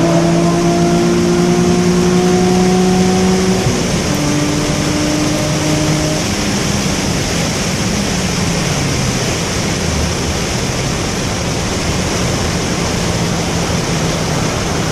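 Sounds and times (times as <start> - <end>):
low engine hum: 0.0 - 14.9
wind and road rush: 0.0 - 14.9.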